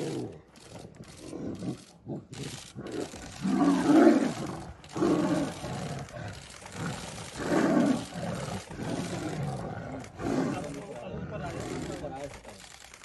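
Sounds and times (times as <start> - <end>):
tiger growling and roaring: 0.0 - 12.9.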